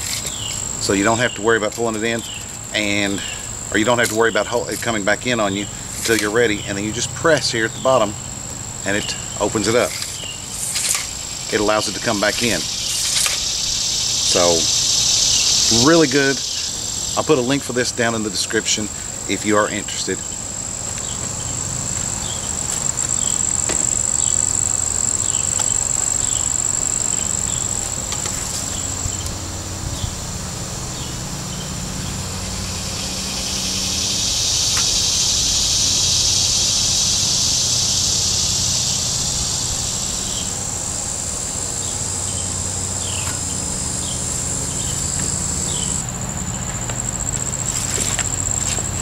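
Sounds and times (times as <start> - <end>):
insects shrilling: 0.0 - 49.0
loud buzzing: 5.2 - 49.0.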